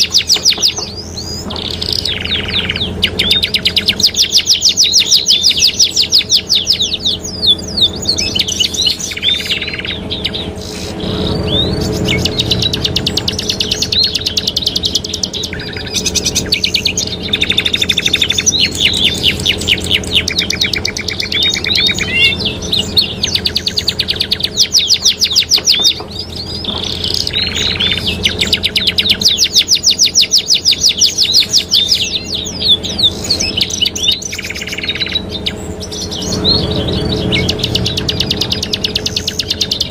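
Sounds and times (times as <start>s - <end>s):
canaries singing trills: 0.0s - 39.9s
steady low hum: 0.0s - 39.9s.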